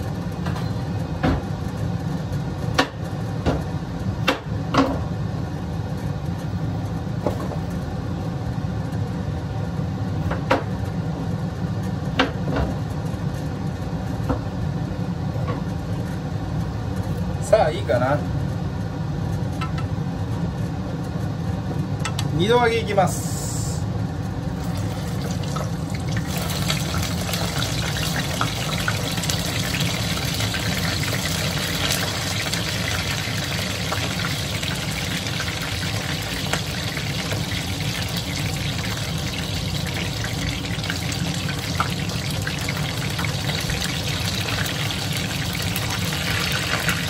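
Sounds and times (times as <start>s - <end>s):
deep-frying sizzle with crackles: 0.0s - 47.0s.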